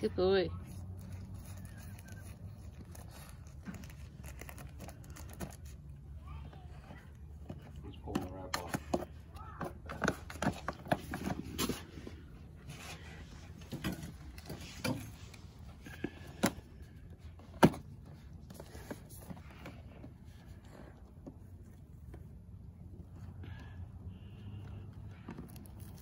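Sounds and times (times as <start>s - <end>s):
packaging being handled: 0.7s - 22.3s.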